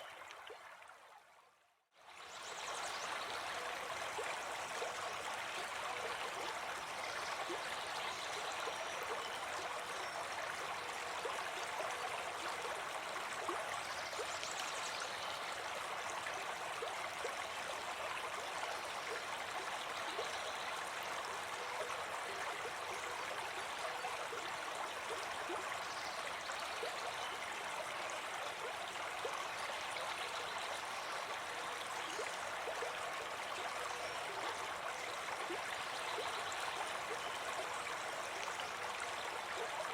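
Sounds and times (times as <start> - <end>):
brook babbling over stones: 0.0 - 1.4, 2.0 - 39.9.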